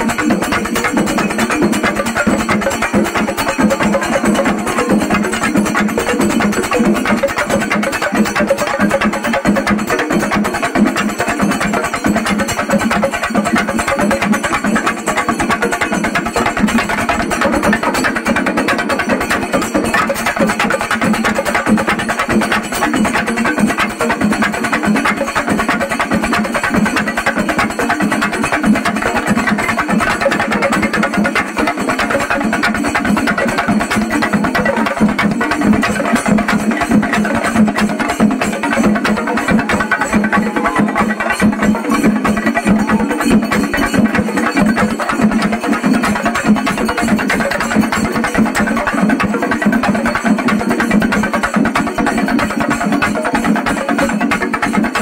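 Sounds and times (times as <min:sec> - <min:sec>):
drums beaten fast with sticks: 0:00.0 - 0:55.0.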